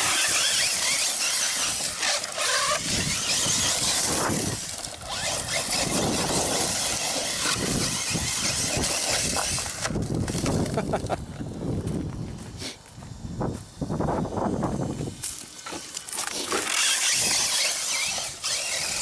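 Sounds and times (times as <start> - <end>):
rc car motor whining: 0.0 - 10.9, 13.1 - 19.0.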